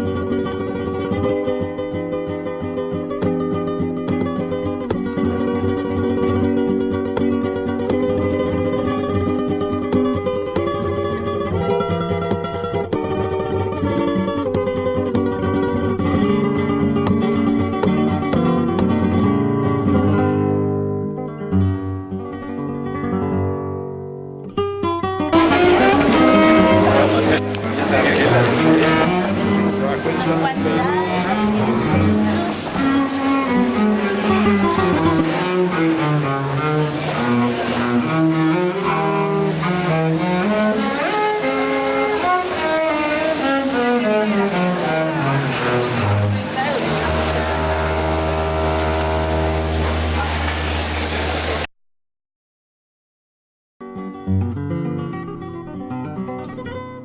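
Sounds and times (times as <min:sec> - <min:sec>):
bowed string music: 0:00.0 - 0:21.5, 0:25.2 - 0:51.6
flamenco acoustic guitar: 0:00.0 - 0:51.6, 0:53.8 - 0:57.0.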